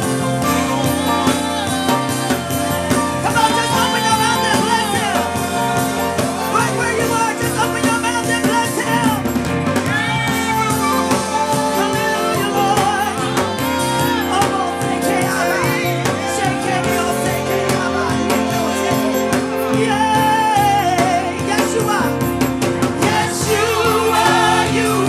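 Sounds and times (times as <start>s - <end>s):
band with drums playing: 0.0s - 25.0s.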